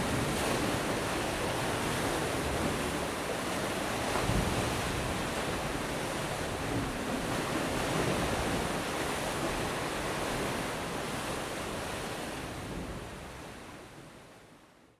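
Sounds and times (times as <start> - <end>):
sea waves on the shore: 0.0 - 14.9.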